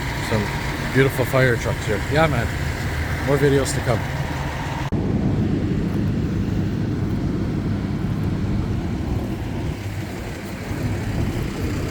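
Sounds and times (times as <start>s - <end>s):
diesel engines idling: 0.0s - 11.9s.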